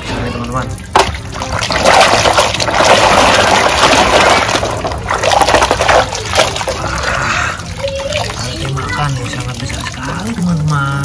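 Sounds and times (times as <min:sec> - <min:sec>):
toy splashing into water: 0:00.0 - 0:11.0
water sloshing and swishing: 0:00.0 - 0:11.0.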